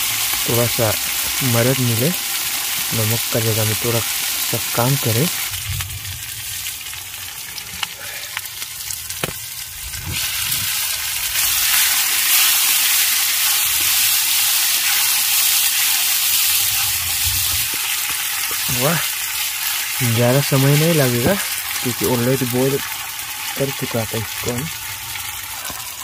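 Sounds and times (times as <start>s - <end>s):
curry sizzling: 0.0s - 26.0s.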